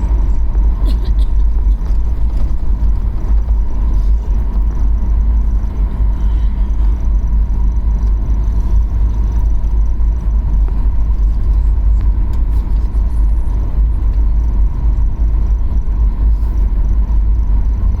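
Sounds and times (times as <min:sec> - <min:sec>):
airliner cabin low rumble: 0:00.0 - 0:18.0
thin steady whine: 0:00.0 - 0:18.0.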